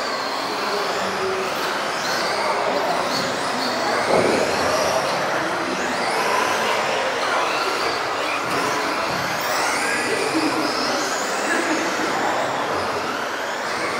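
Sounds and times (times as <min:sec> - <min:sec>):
rc car motors whining: 0:00.0 - 0:13.9.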